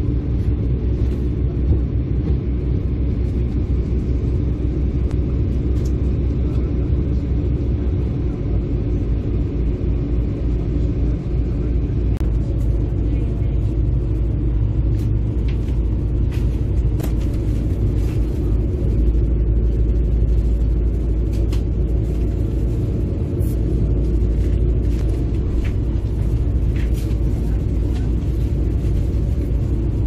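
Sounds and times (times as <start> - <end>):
diesel engines low rumble: 0.0 - 30.0.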